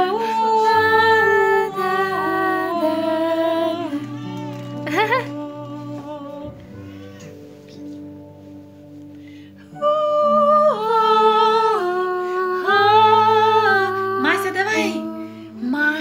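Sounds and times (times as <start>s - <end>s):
wordless hummed melody: 0.0s - 16.0s.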